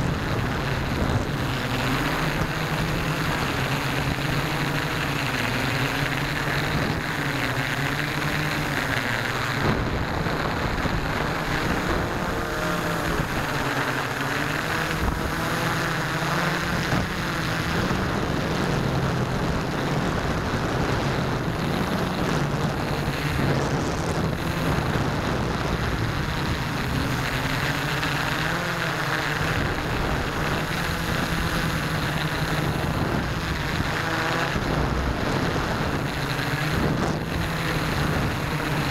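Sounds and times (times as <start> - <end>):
model airplane motor droning: 0.0 - 38.9
wind rush: 0.0 - 38.9.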